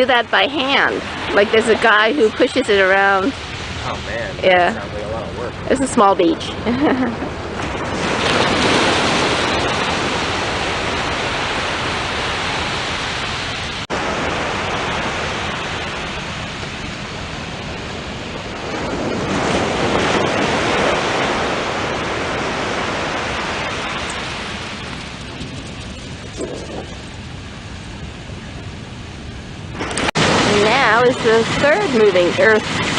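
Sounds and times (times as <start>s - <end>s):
ocean surf washing on beach: 0.0s - 32.9s.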